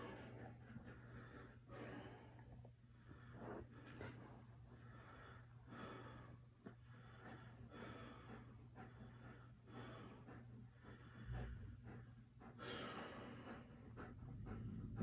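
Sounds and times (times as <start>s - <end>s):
dog breathing and snorting: 0.0s - 15.0s.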